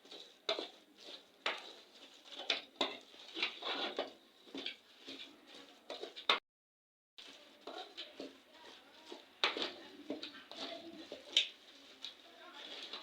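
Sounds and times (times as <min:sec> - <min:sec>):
utensils and pots clattering: 0:00.0 - 0:06.4, 0:07.2 - 0:13.0.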